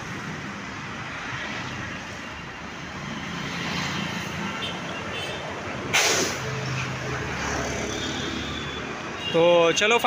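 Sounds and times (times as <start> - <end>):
passing vehicles: 0.0 - 10.0.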